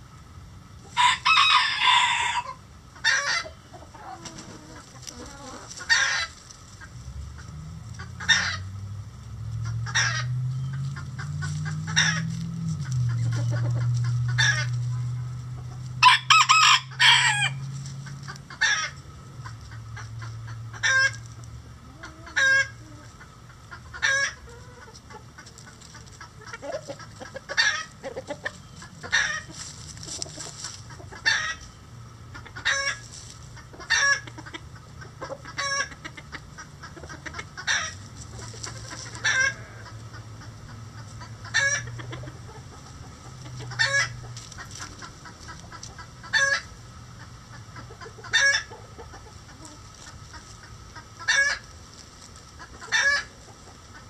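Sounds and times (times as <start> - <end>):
chickens clucking: 0.0 - 54.0
steady low hum: 0.0 - 54.0.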